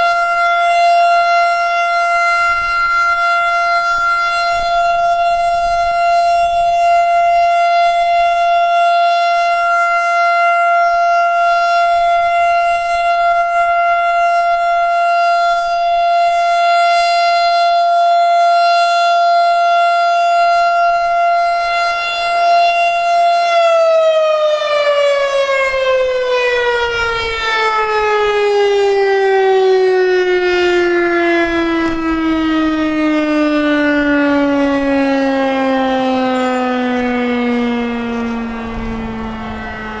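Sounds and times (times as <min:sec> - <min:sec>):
siren winding down: 0:00.0 - 0:40.0
warning siren steady tone: 0:00.0 - 0:40.0.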